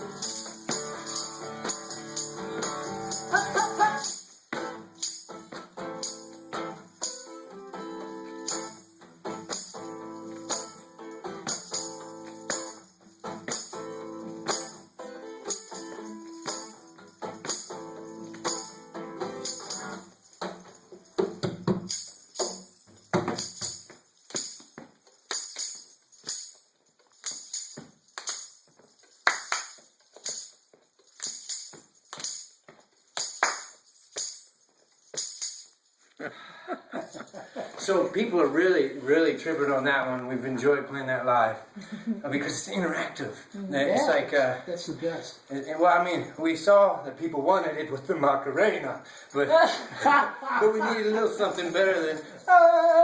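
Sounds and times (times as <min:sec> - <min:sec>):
jingling percussion beat: 0:00.0 - 0:38.8, 0:41.8 - 0:46.5, 0:47.2 - 0:53.0.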